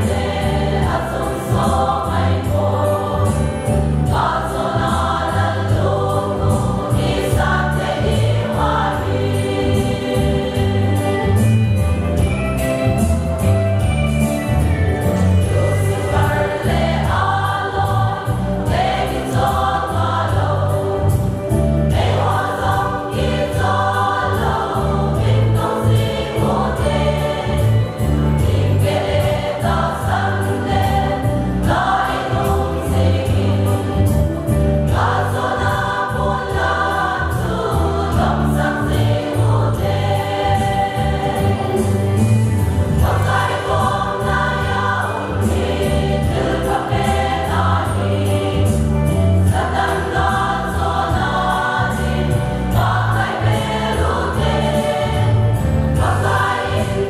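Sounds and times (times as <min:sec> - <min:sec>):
choir singing a hymn: 0:00.0 - 0:13.4, 0:14.9 - 0:57.0.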